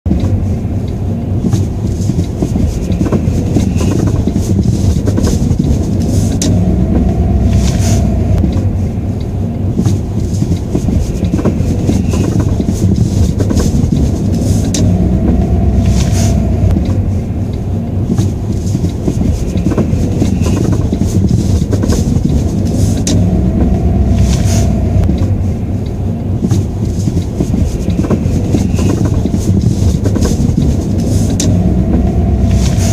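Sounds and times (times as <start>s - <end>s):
car driving low rumble: 0.0s - 32.9s.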